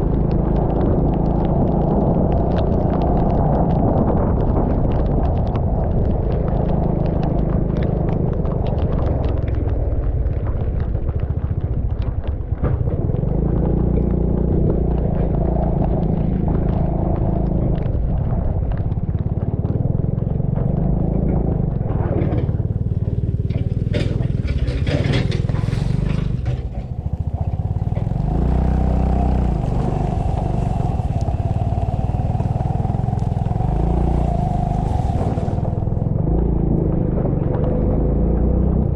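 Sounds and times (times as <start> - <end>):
motorcycle engine drone: 0.0 - 38.9.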